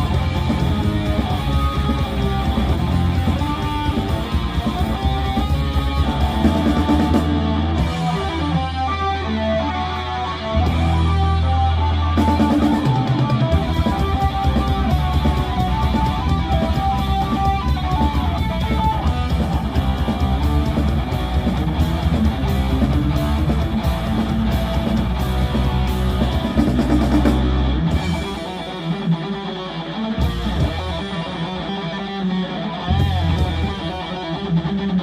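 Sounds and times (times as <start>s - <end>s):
drum kit: 0.0s - 31.9s, 32.8s - 34.9s
bass guitar: 0.0s - 35.0s
electric guitar: 0.0s - 35.0s.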